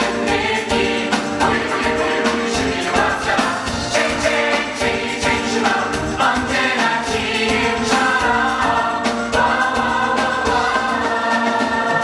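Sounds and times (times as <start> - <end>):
chorus of voices singing: 0.0 - 12.0
live band with drums: 0.0 - 12.0.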